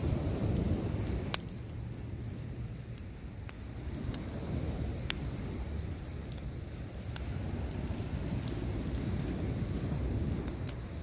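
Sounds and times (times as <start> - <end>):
bonfire crackling: 0.0 - 11.0
sharp pops of fire: 0.0 - 11.0.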